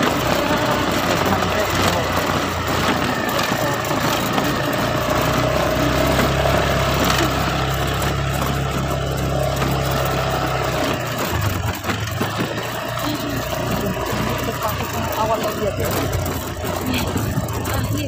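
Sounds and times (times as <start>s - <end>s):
rush of riding: 0.0s - 18.0s
small motorcycle engine running: 0.0s - 18.0s.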